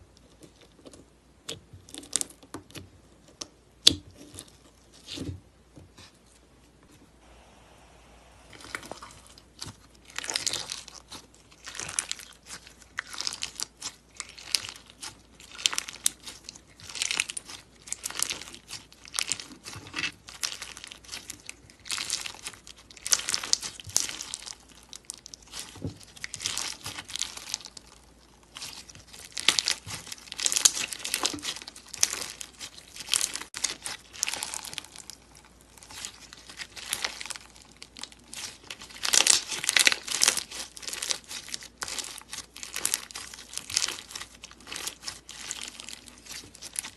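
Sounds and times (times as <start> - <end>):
slime squishing and crackling: 0.2 - 5.3, 8.5 - 46.9.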